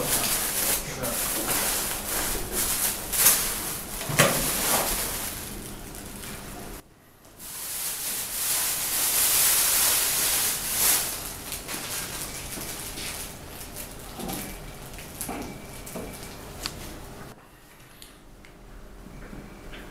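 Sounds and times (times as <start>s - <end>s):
plastic bag rustling: 0.0s - 6.8s, 7.4s - 17.0s.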